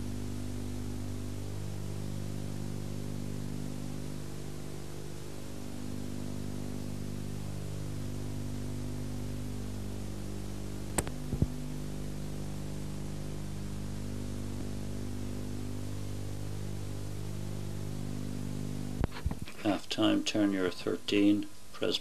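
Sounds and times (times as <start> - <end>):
electrical mains hum with hiss: 0.0 - 22.0.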